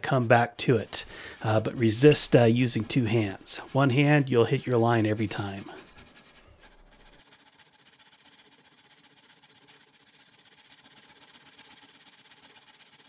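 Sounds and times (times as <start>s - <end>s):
hand saw rasping through wood: 0.3s - 13.0s.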